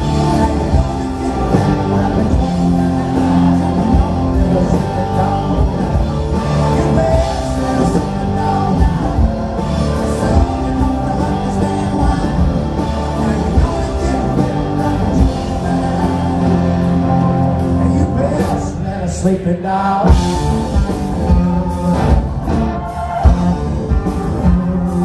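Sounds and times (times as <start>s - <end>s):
person singing: 0.0s - 20.6s
rock band playing live: 0.0s - 25.0s.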